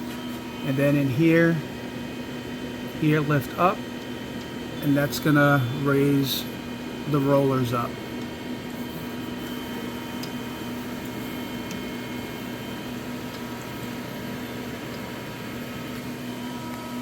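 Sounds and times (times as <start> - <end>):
faint fan whine: 0.0 - 17.0
printer machine hum: 0.0 - 17.0.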